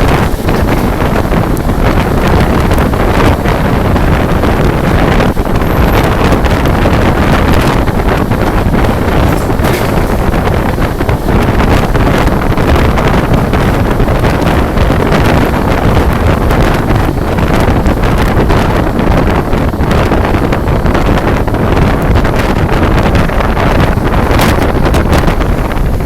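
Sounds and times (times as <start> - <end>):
train rumbling at speed: 0.0 - 26.0
wind buffeting microphone: 0.0 - 26.0.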